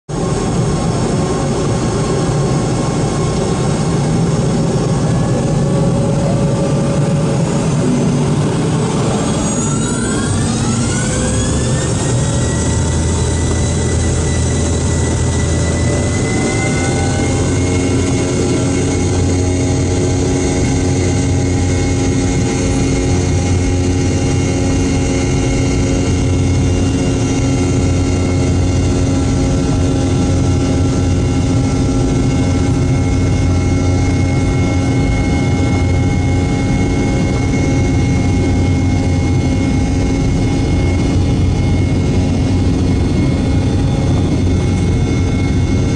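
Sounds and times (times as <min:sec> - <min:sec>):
continuous low rumble: 0:00.1 - 0:45.9
jet engine whine: 0:00.1 - 0:45.9.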